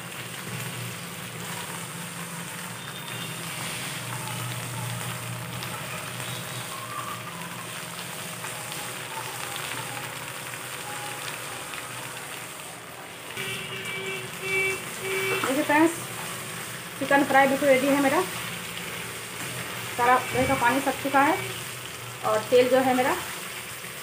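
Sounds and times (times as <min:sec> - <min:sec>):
chicken frying in oil: 0:00.0 - 0:24.0.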